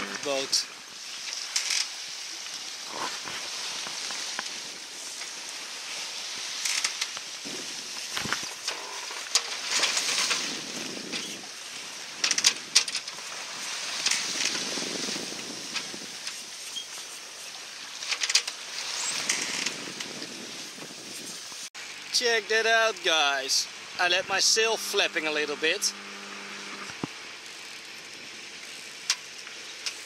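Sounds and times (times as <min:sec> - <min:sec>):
wind and water hiss: 0:00.0 - 0:30.0.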